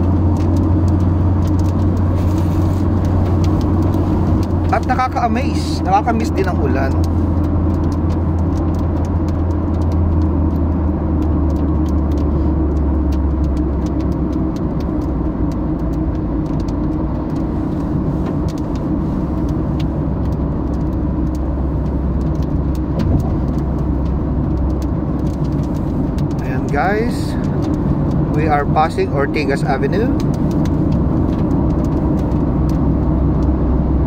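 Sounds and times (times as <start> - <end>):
car cabin road and engine noise: 0.0 - 34.0.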